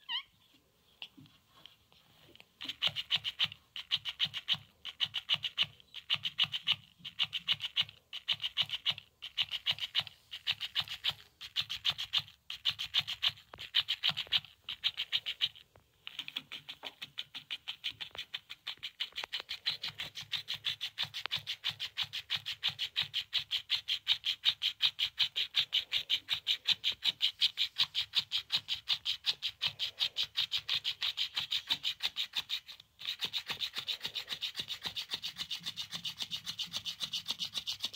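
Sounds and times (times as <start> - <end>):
cat toy motor ticking: 2.6 - 15.6, 16.2 - 37.9.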